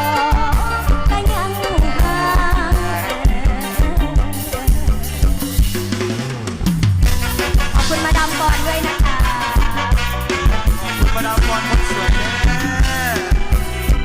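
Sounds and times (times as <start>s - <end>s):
drum kit beat: 0.0s - 14.0s
upbeat band music: 0.0s - 14.0s.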